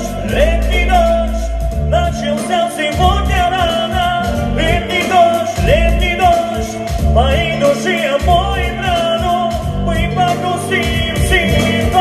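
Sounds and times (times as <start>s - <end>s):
karaoke backing track: 0.0s - 12.0s.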